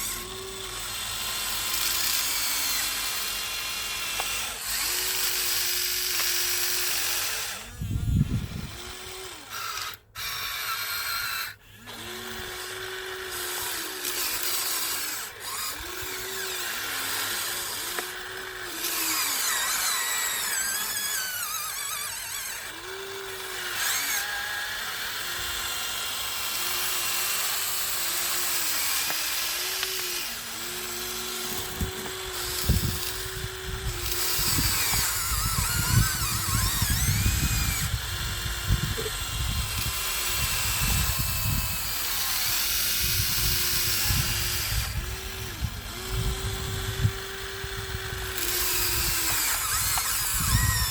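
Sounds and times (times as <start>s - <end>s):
small electric motors whining: 0.0s - 50.9s.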